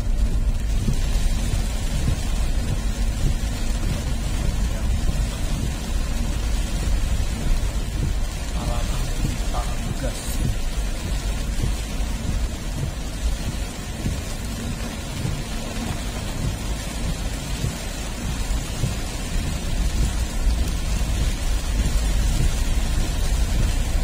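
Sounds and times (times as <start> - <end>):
deep rumble: 0.0 - 24.0
heavy rain falling: 0.0 - 24.0.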